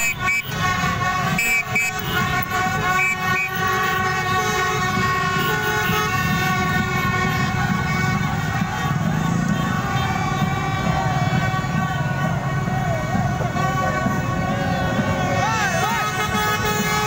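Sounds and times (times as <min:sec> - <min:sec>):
motorbike engines rumbling: 0:00.0 - 0:17.0
vehicle horns blaring: 0:00.0 - 0:17.0.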